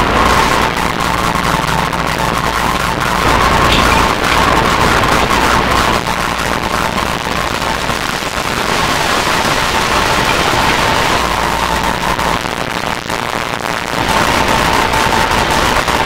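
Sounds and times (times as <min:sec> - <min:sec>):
crackling static: 0:00.0 - 0:16.0
low hum: 0:00.0 - 0:16.0
steady tone: 0:00.0 - 0:16.0.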